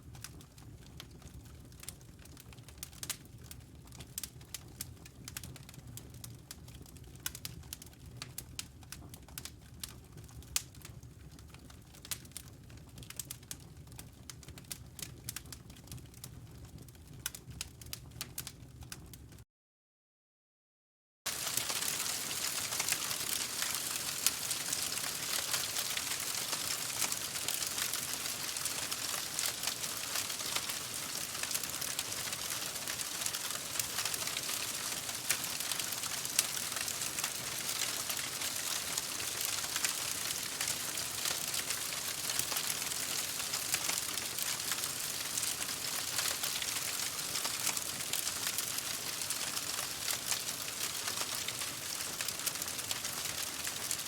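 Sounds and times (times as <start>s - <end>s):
campfire crackling and popping: 0.1s - 19.4s, 21.3s - 54.0s.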